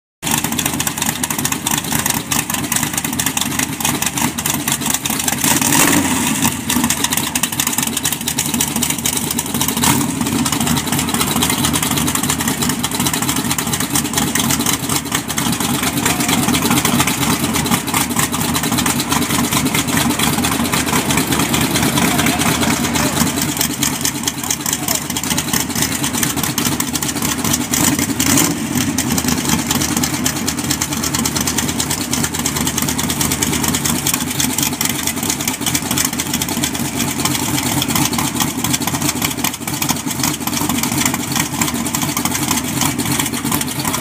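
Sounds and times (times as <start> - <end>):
race car engine idling: 0.2 - 44.0.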